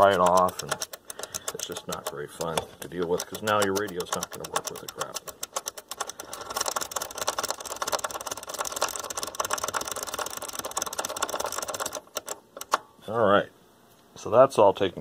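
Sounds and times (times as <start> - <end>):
push-button switches clicking: 0.0 - 12.8.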